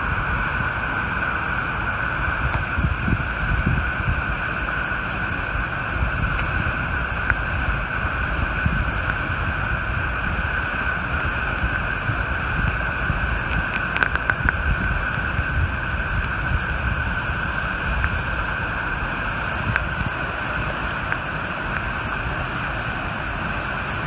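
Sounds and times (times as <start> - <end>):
water gushing at high pressure: 0.0 - 24.0.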